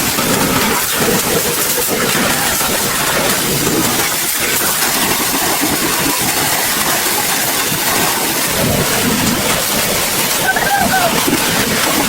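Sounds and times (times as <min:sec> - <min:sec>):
machine running with hiss: 0:00.0 - 0:12.0.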